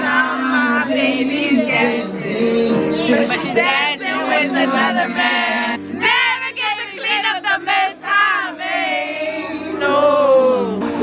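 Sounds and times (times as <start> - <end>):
backing music: 0.0 - 11.0
women singing a pop ballad: 0.0 - 11.0.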